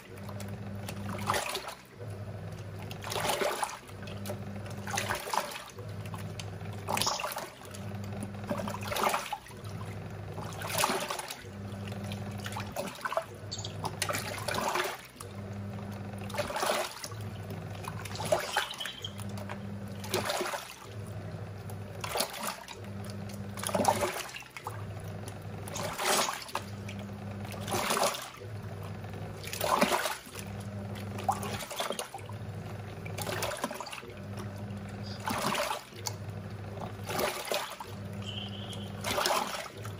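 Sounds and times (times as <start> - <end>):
washing machine motor hum: 0.0 - 39.9
water sloshing in tub: 0.0 - 39.9.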